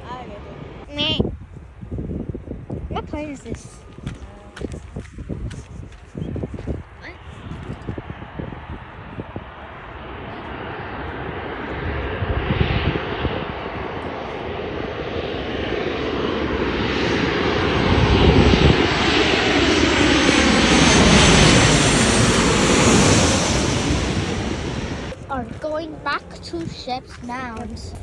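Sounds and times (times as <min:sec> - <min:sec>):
jet engines roaring past: 0:00.0 - 0:28.0.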